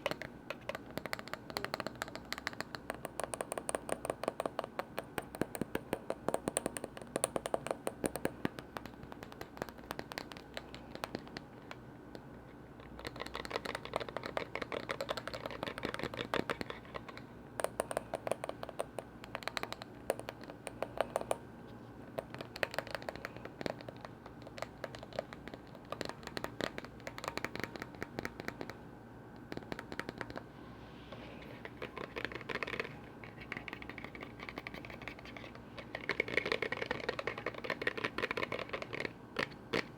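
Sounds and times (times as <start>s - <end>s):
rapid tapping on lids: 0.0s - 11.8s, 12.8s - 21.4s, 22.1s - 28.8s, 29.4s - 30.5s, 31.4s - 39.9s.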